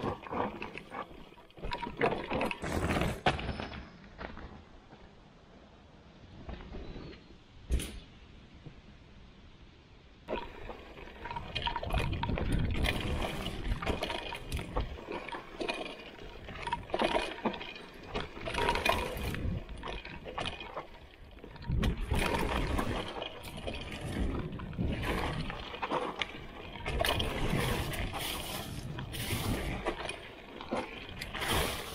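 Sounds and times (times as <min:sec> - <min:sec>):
bike tyres rumbling over dirt: 0:00.0 - 0:05.2, 0:10.3 - 0:31.9.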